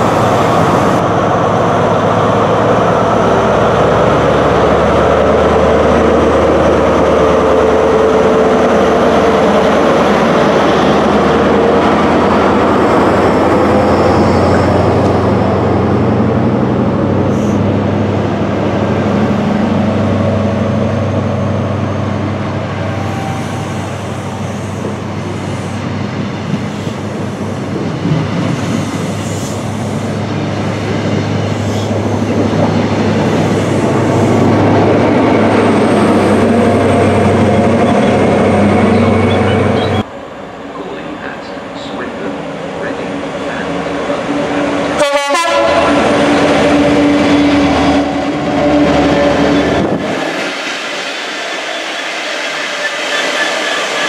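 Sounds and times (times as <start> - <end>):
diesel train engine under load: 0.0 - 54.0
train coaches rolling by: 0.0 - 54.0.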